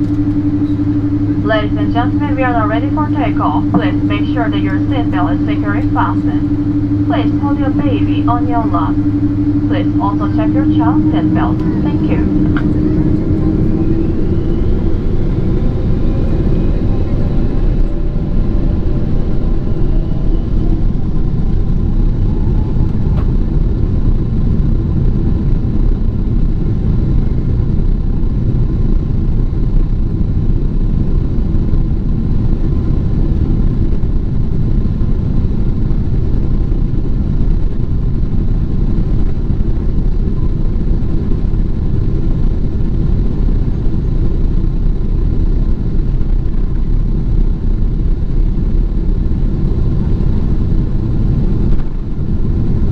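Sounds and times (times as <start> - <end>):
jet engine whine rising: 0.0 - 52.9
jet engines low rumble: 0.0 - 52.9.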